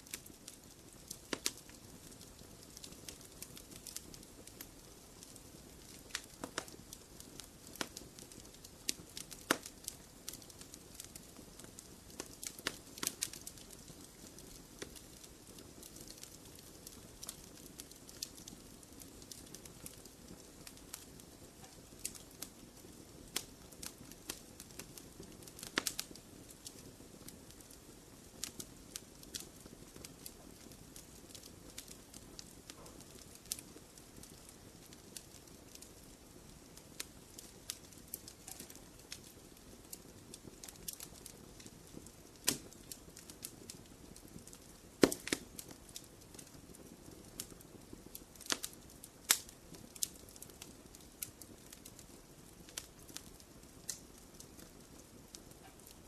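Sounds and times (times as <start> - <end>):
low steady hiss of fire: 0.0 - 56.0
wood fire crackling and popping: 0.0 - 56.0.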